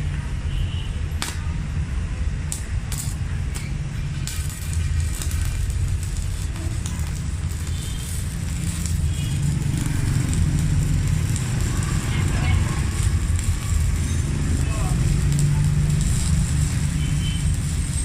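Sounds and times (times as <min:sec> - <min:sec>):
constant low rumble: 0:01.0 - 0:18.0
welding arc crackling: 0:01.0 - 0:18.0.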